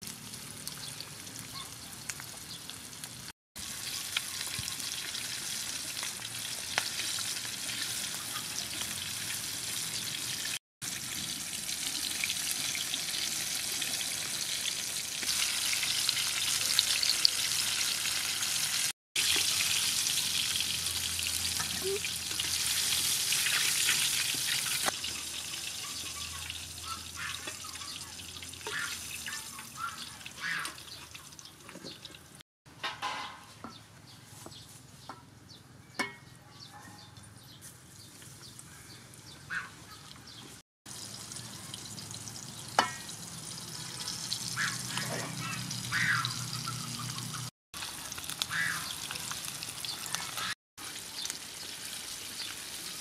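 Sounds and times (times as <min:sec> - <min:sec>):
chicken sizzling in hot oil: 0:00.0 - 0:32.4, 0:40.9 - 0:53.0.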